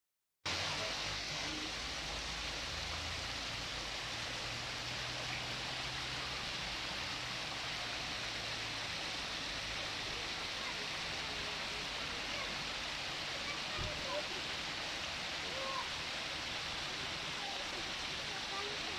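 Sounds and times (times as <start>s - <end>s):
water pouring into a pond: 0.5s - 18.9s.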